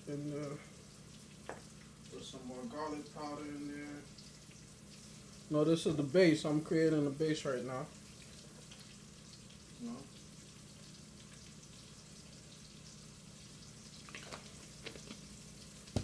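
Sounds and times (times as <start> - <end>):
stew sizzling in a pot: 0.0 - 16.0.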